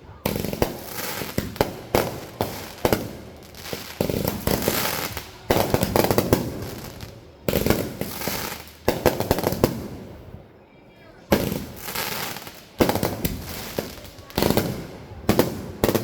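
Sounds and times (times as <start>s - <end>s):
fireworks bangs and crackling: 0.0s - 10.4s, 11.3s - 16.0s.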